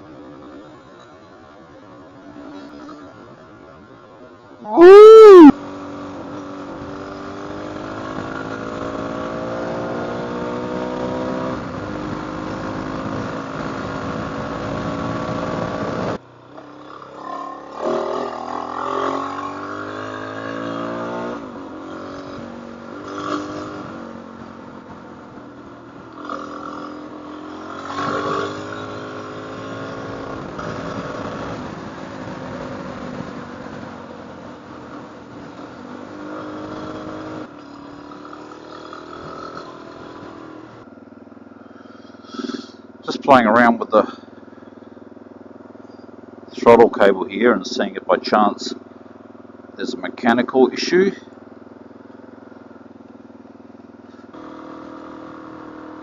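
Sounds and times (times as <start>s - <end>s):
motorcycle engine revving: 4.7s - 56.0s.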